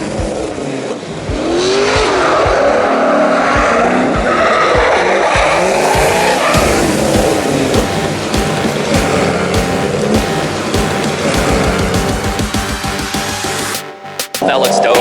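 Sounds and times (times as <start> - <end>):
car engines revving: 0.6 - 13.8.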